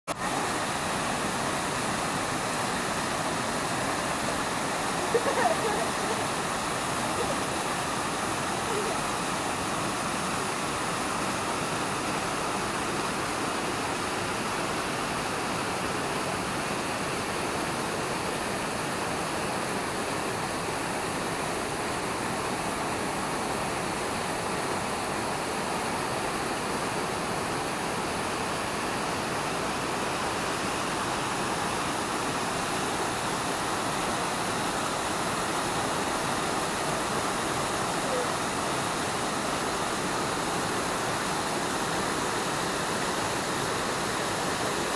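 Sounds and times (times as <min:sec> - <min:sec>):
waterfall rushing: 0:00.1 - 0:44.9.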